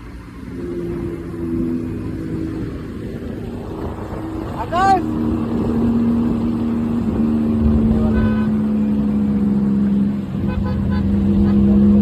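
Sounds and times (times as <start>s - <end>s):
car engine droning: 0.0s - 12.0s
road and wind rumble: 0.0s - 12.0s.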